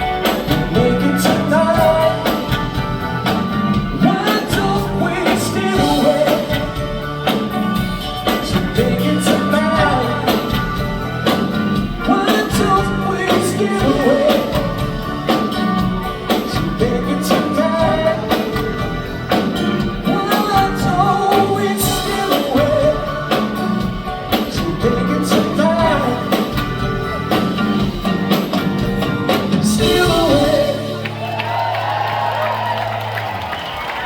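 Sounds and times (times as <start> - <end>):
person singing: 0.0 - 28.1, 29.3 - 31.4
steady drum beat: 0.0 - 31.6
soft rock band playing: 0.0 - 34.0.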